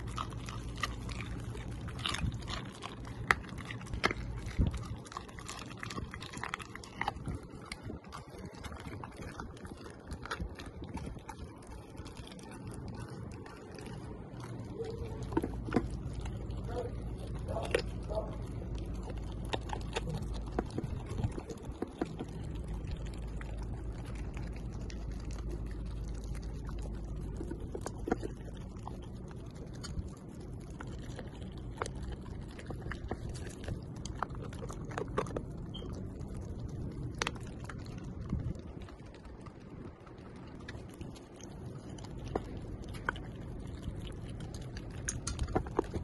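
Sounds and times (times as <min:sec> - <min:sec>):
puppy chewing and slurping: 0:00.0 - 0:46.0.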